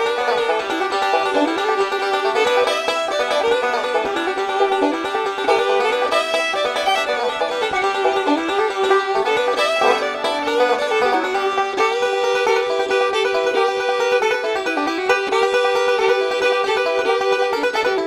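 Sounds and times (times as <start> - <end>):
upbeat bluegrass plucked strings: 0.0 - 18.0.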